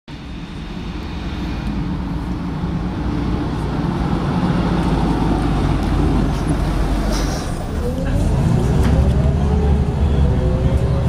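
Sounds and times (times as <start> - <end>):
bus diesel engine approaching: 0.1 - 11.0.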